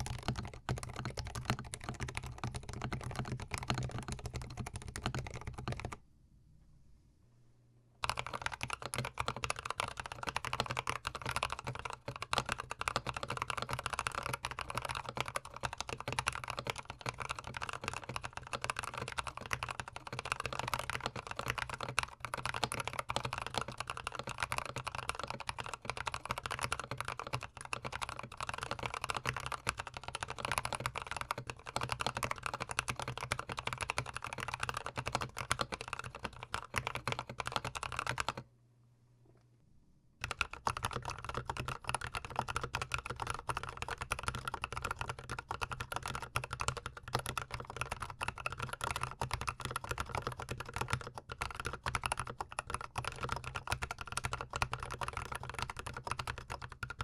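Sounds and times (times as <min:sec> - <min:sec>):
fast keyboard typing: 0:00.0 - 0:06.0, 0:08.0 - 0:38.4, 0:40.2 - 0:57.0.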